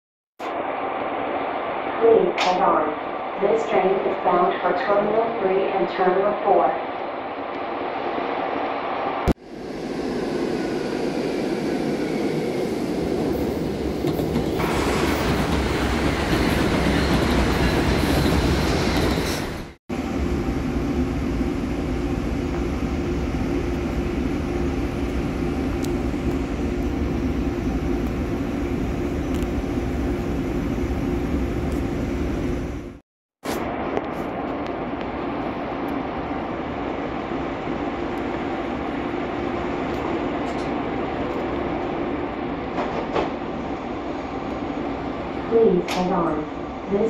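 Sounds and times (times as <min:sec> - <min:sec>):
train rumble and hum: 0:00.4 - 0:47.0.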